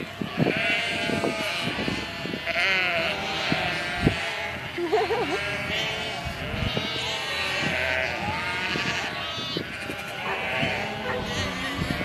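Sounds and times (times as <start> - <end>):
sheep bleating: 0.2 - 12.0.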